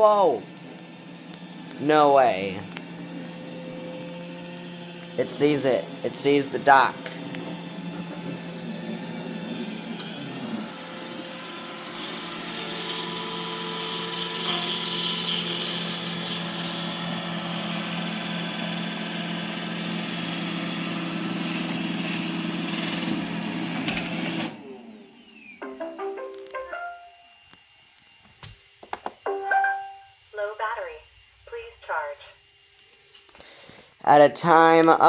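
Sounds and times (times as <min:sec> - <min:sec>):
robot vacuum humming: 0:00.0 - 0:30.0.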